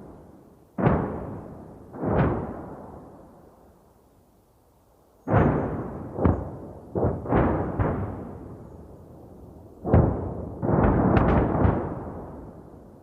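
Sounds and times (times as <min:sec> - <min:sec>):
distant artillery explosions: 0:00.0 - 0:03.6, 0:05.2 - 0:13.0.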